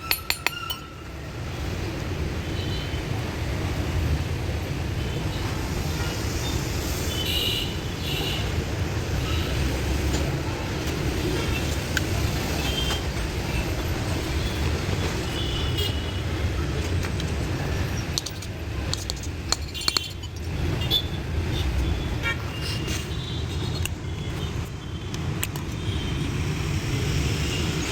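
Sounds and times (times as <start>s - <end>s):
road traffic rumble: 0.0s - 27.9s.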